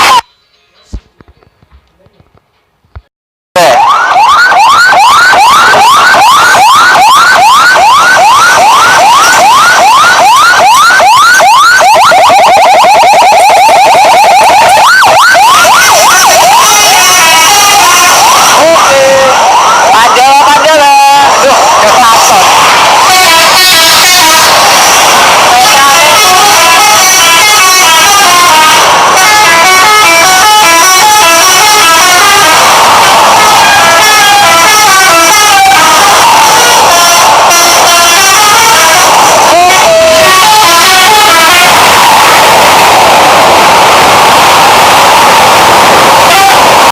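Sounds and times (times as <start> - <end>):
bus horn sounding siren patterns: 0.0 - 0.3, 3.6 - 46.9.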